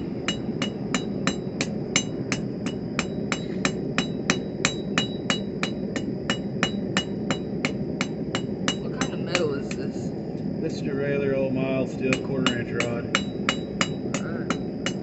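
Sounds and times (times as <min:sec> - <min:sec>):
hammer striking steel on anvil: 0:00.0 - 0:09.8, 0:12.1 - 0:15.0
low rush: 0:00.0 - 0:15.0.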